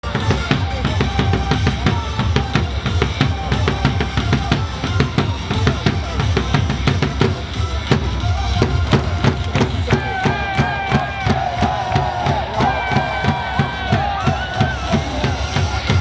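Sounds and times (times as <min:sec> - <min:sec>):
upbeat cheer music with drums: 0:00.0 - 0:16.0.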